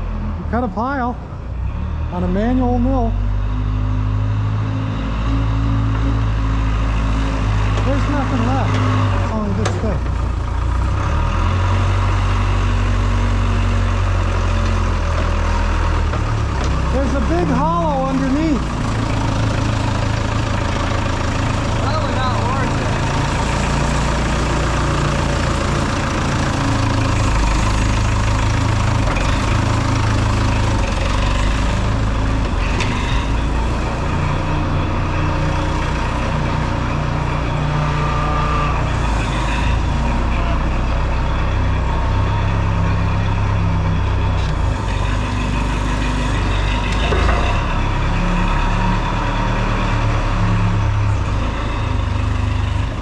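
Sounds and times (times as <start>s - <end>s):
sawmill engine running: 0.0s - 53.0s.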